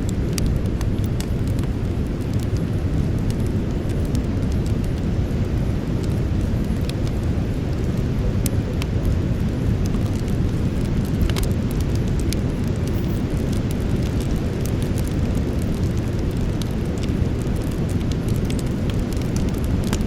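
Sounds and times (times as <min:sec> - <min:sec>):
burning wood crackling: 0:00.0 - 0:20.0
campfire roar: 0:00.0 - 0:20.0.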